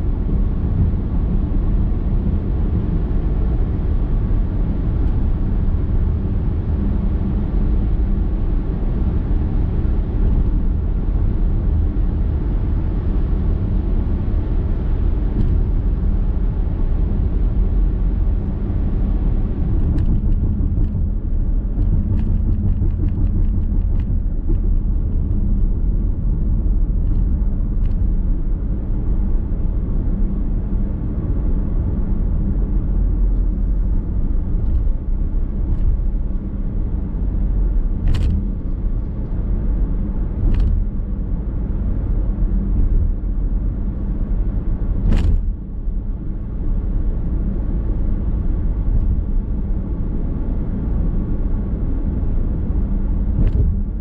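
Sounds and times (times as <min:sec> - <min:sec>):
car road and tyre noise: 0:00.0 - 0:54.0.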